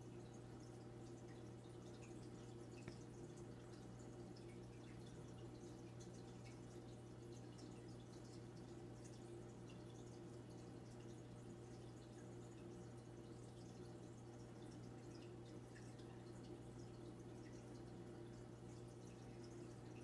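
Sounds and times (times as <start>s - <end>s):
water dripping and trickling: 0.0s - 20.0s.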